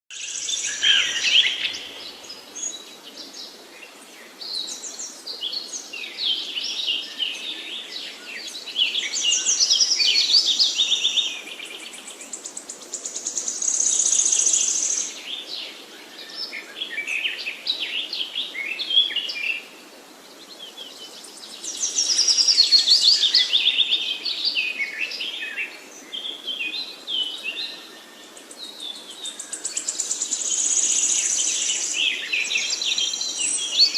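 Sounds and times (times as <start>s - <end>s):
songbirds singing: 0.1s - 33.9s
steady background hiss: 0.2s - 33.9s.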